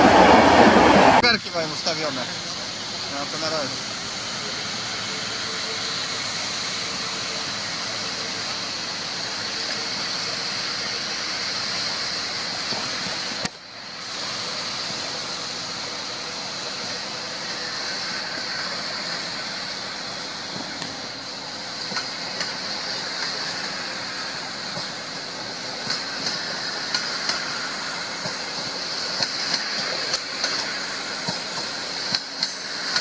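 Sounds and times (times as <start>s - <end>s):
train coaches rolling on rails: 0.0s - 33.0s.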